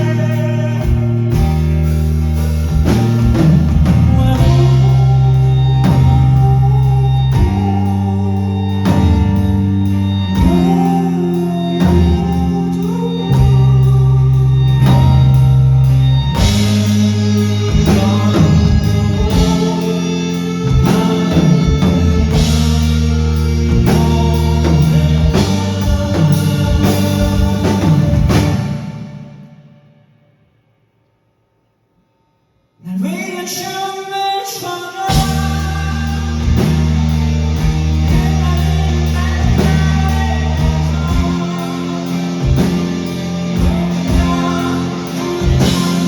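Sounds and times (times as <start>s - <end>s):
rock band playing live: 0.0s - 30.1s, 34.4s - 46.0s.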